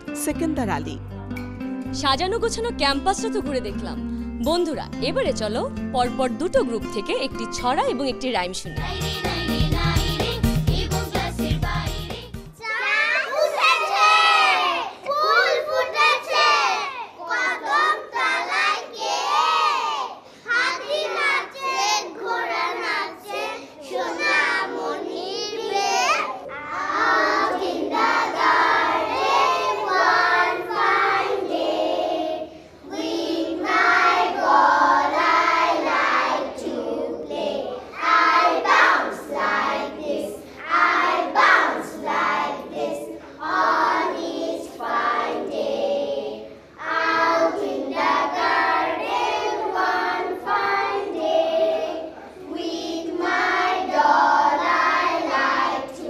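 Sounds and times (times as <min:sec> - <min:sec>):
children singing in unison: 0:08.7 - 0:56.0.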